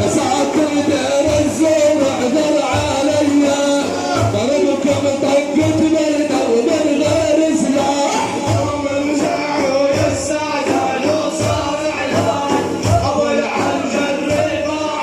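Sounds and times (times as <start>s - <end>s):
frame drums beating: 0.0s - 15.0s
men singing a chant: 0.0s - 15.0s.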